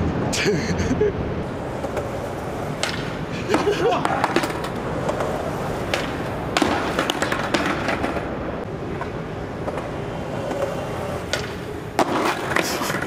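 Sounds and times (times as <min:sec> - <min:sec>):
steady background noise: 0:00.0 - 0:13.0
skateboard knocking on concrete: 0:01.7 - 0:08.3, 0:08.9 - 0:13.0.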